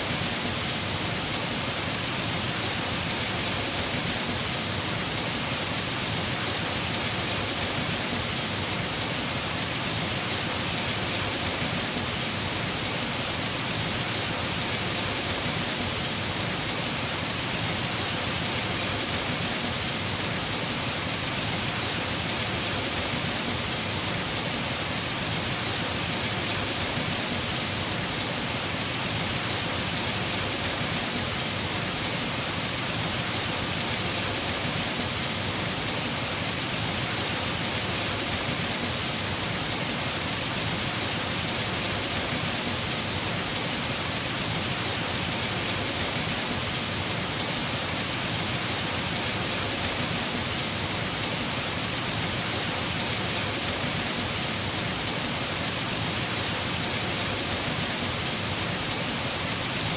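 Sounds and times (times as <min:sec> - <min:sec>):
heavy rain on roof: 0:00.0 - 0:59.9.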